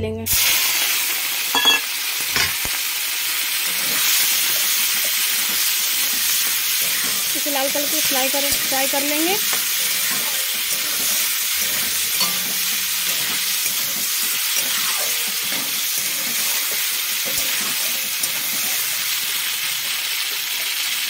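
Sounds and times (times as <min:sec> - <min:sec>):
prawns sizzling in hot oil: 0:00.3 - 0:21.0.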